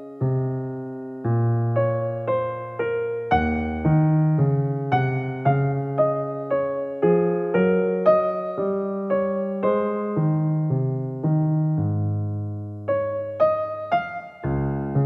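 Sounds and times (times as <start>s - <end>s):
gentle electric piano melody: 0.0s - 15.0s.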